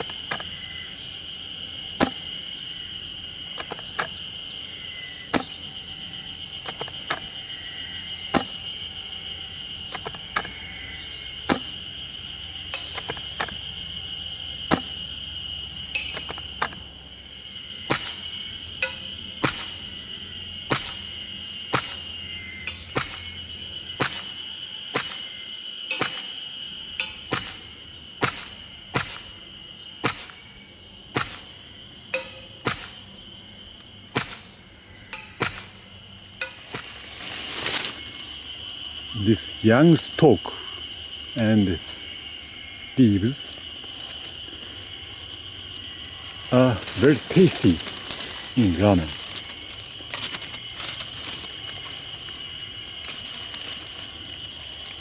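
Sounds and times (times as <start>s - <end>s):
high insect buzz: 0.0s - 55.0s.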